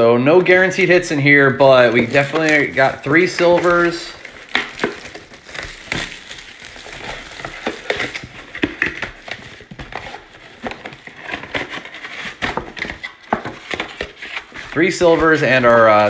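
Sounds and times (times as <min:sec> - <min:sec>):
cardboard crinkling and scraping: 0:00.8 - 0:16.0.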